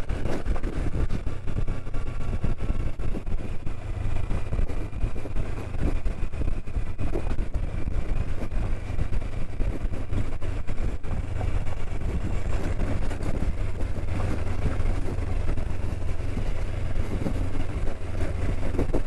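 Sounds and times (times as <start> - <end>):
motorcycle engine drone: 0.0 - 19.0
road and wind rumble: 0.0 - 19.0.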